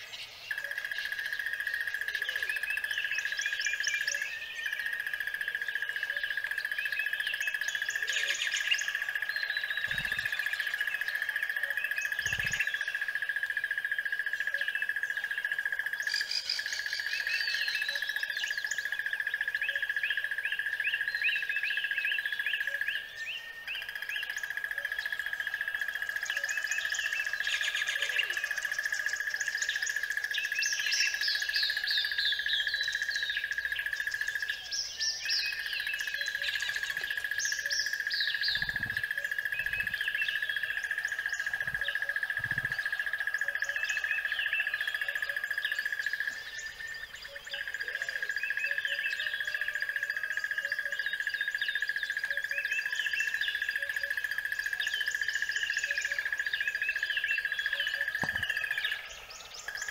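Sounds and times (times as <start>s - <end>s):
songbirds chirping and singing: 0.0s - 59.9s.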